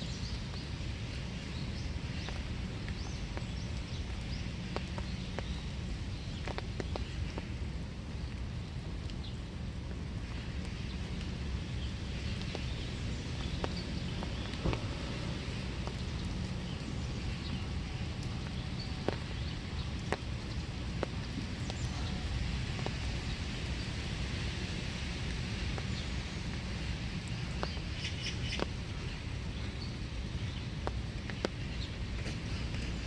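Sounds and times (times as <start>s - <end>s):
birds chirping: 0.0s - 9.5s, 10.2s - 24.7s, 25.6s - 33.0s
steady rain falling: 0.0s - 33.0s.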